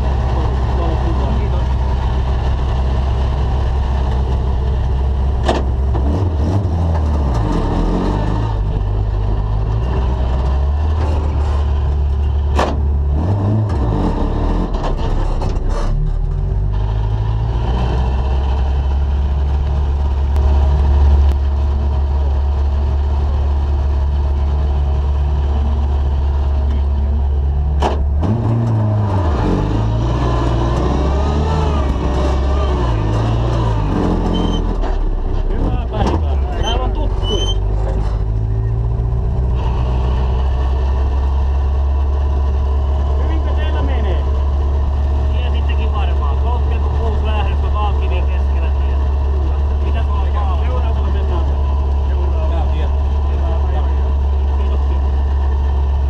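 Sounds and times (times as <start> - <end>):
car engine at low revs: 0.0 - 56.0.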